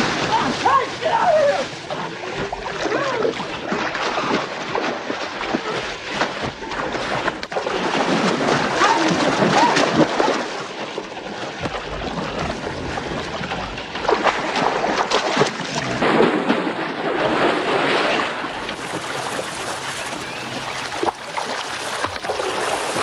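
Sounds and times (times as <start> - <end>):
steady rush of water: 0.0 - 23.0
water splashing and churning: 0.0 - 23.0.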